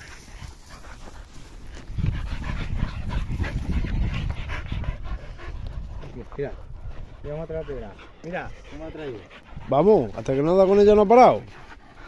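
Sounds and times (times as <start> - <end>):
dogs panting and scuffling: 0.0 - 12.0.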